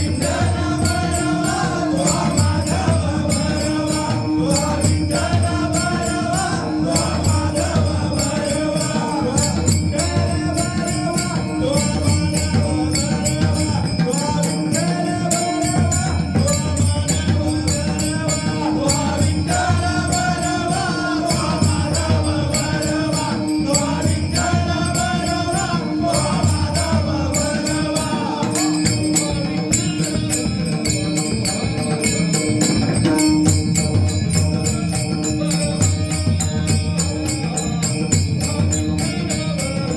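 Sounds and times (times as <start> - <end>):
man singing: 0.0 - 39.9.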